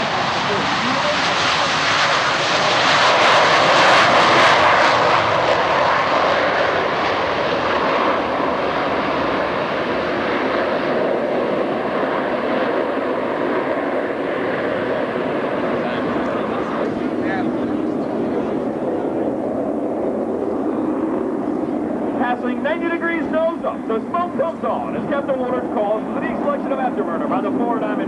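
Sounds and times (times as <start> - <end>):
jets taking off roaring: 0.0 - 28.0.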